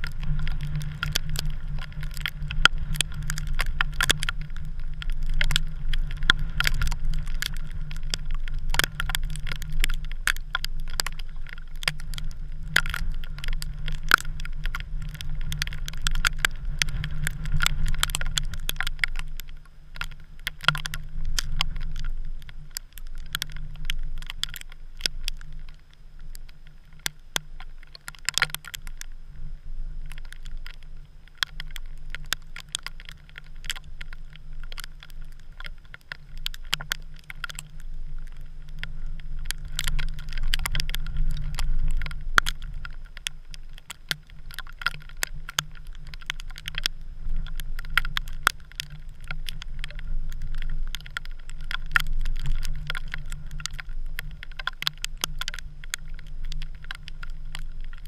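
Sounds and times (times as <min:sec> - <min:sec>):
sharp irregular ticks: 0:00.0 - 0:58.0
wind rumbling on microphone: 0:00.0 - 0:58.0.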